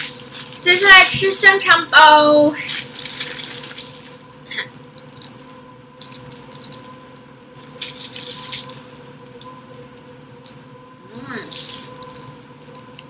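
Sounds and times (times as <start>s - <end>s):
plastic bag crinkling: 0.0s - 9.5s, 11.2s - 13.0s.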